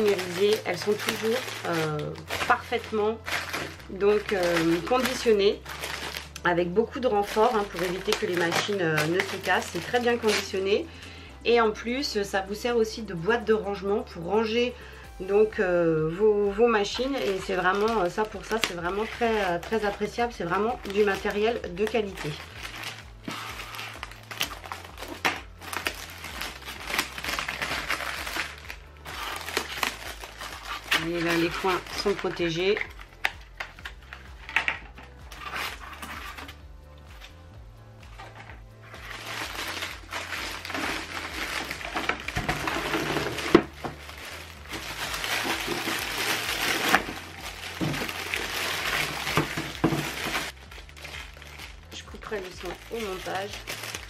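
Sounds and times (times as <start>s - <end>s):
plastic wrap crinkling: 0.0s - 10.9s, 16.8s - 37.4s, 38.0s - 54.0s.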